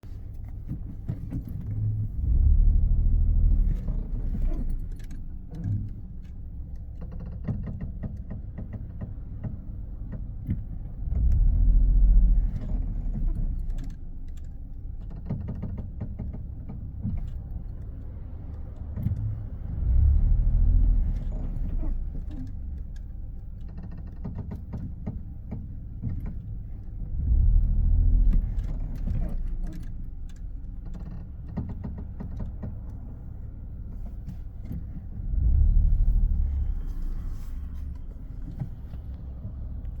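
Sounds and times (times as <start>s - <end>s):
car creaking and ticking: 0.0s - 40.0s
low car rumble: 0.0s - 40.0s.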